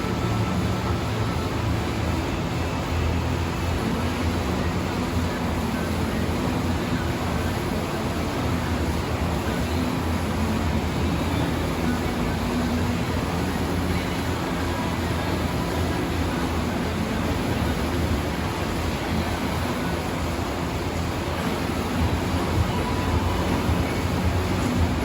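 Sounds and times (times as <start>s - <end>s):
engine drone: 0.0s - 25.0s.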